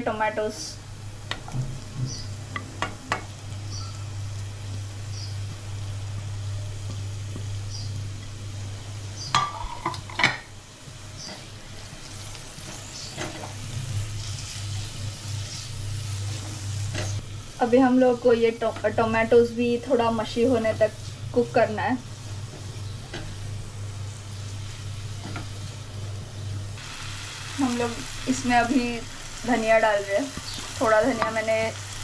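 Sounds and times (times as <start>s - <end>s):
steady low hum: 0.0s - 32.0s
tomatoes sizzling in a pan: 0.0s - 32.0s.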